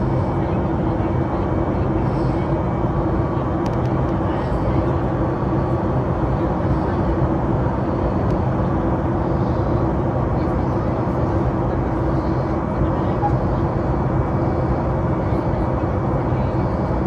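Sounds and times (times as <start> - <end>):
constant hum: 0.0 - 17.0
jet engine drone in cabin: 0.0 - 17.0.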